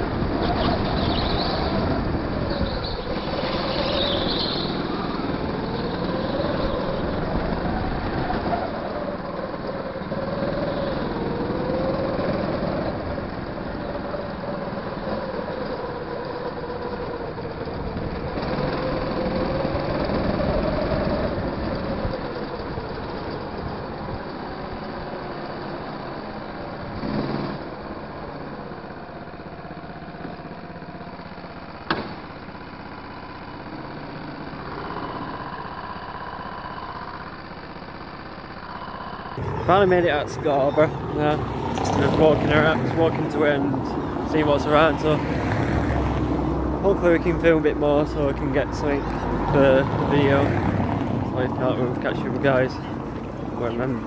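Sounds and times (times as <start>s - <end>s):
go-kart motor running: 0.0s - 54.0s.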